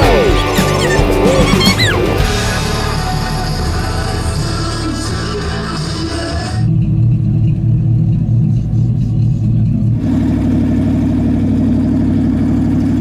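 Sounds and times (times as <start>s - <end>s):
vehicle engine running hard: 0.0s - 13.0s.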